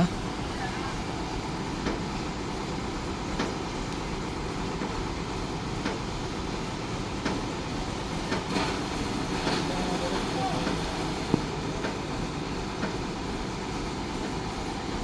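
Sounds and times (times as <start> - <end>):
heavy truck engines rumbling: 0.0 - 15.0.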